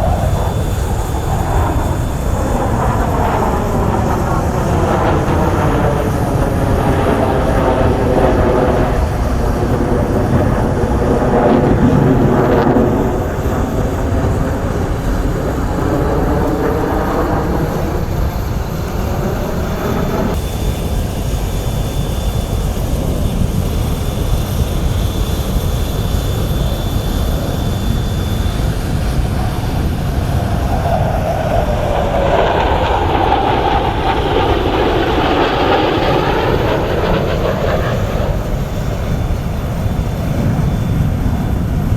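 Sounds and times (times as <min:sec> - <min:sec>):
fighter jet engines roaring past: 0:00.0 - 0:41.9.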